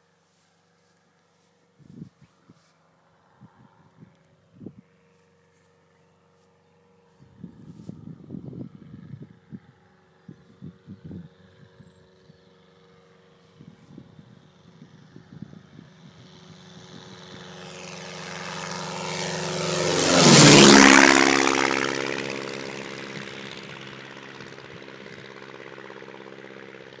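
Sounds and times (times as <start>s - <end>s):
light aircraft flying overhead: 0.0s - 27.0s.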